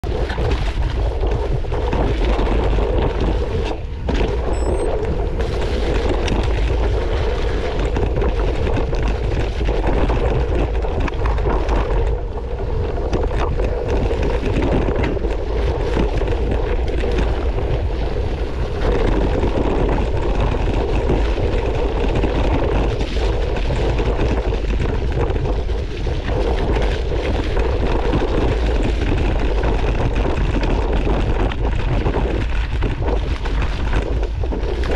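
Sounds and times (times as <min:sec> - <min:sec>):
bike tyre noise: 0:00.0 - 0:34.9
wind buffeting microphone: 0:00.0 - 0:34.9
bike rattle: 0:00.1 - 0:34.9.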